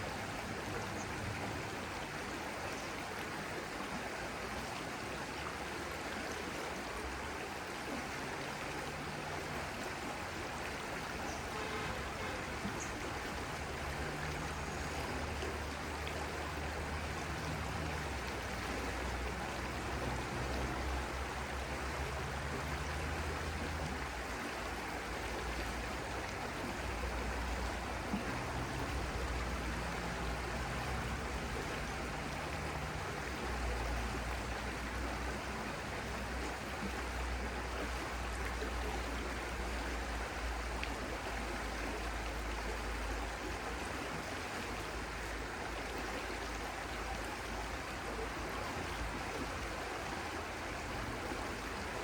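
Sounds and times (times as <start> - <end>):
stream water rushing: 0.0 - 52.0.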